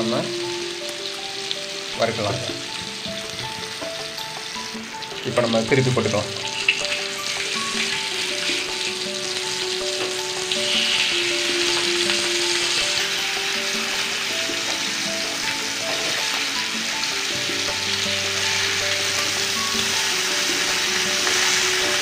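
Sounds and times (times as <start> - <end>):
fish sizzling in oil: 0.0 - 22.0
instrumental music: 0.0 - 22.0.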